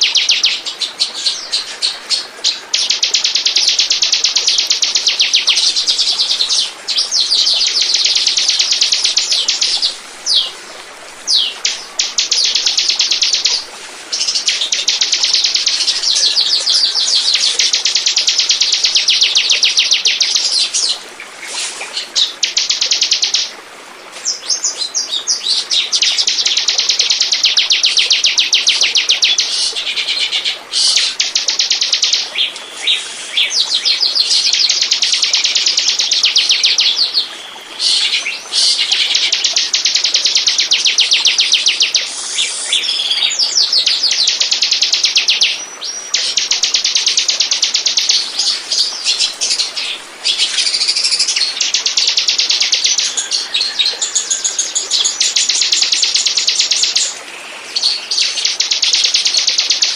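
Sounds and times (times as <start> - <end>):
bird trilling song: 0.0 - 10.5, 11.3 - 21.0, 24.3 - 59.9.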